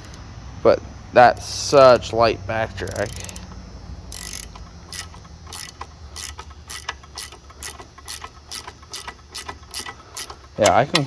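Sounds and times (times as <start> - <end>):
ratcheting wrench clicking: 0.0 - 0.2, 1.4 - 2.1, 2.7 - 11.0.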